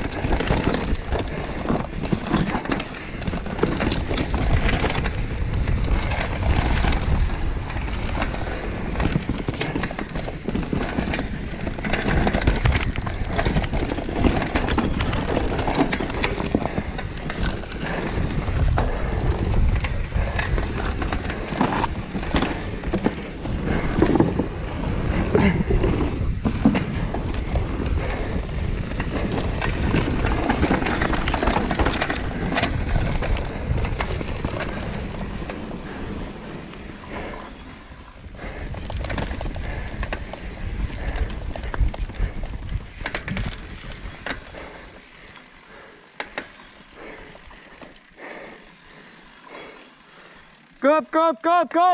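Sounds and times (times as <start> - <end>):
bike clattering over bumps: 0.0 - 50.8
tyres rumbling on dirt: 0.0 - 51.3.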